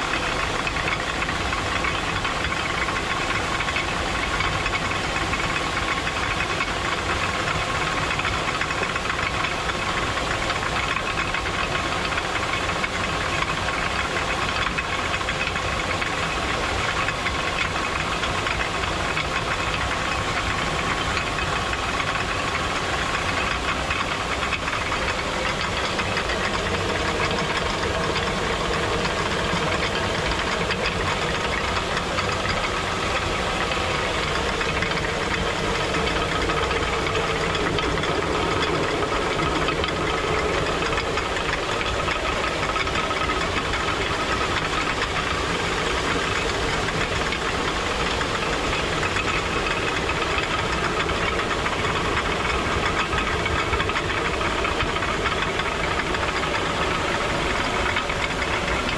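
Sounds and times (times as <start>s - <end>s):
rushing water hiss: 0.0s - 58.9s
water mill knocking rattle: 0.0s - 58.9s.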